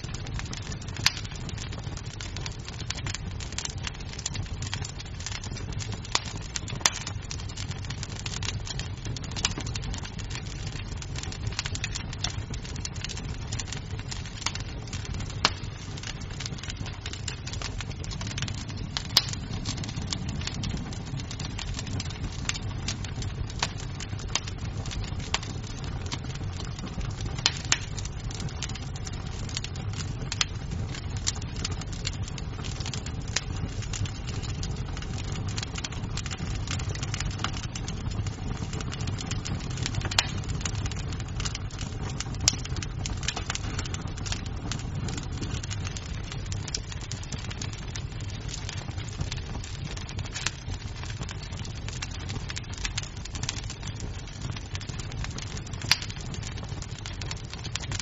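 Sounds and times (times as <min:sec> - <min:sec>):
burning wood popping: 0:00.0 - 0:58.0
wood fire crackling: 0:00.0 - 0:58.0.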